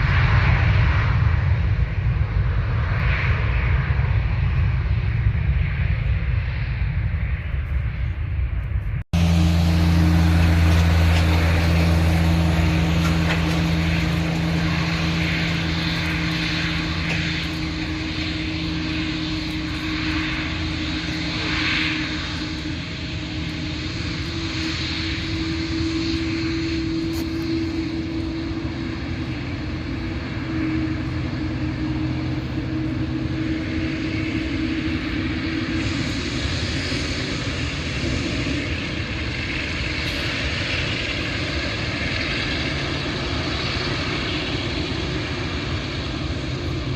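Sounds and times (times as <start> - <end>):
airliner engines droning: 0.0 - 46.9.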